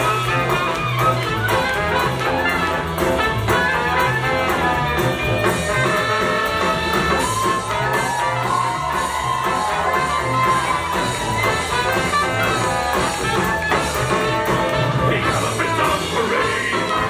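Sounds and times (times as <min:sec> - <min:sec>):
jazz music with horns: 0:00.0 - 0:17.0.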